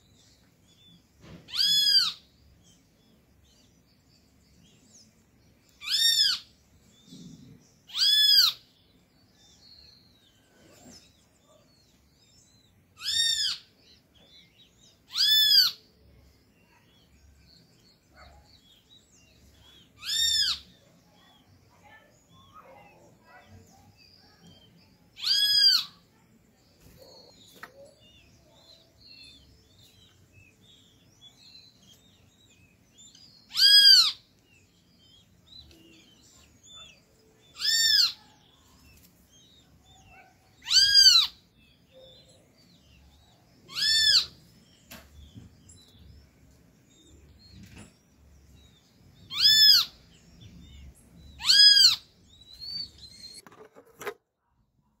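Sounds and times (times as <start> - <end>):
faint bird chirps: 0.0 - 54.1.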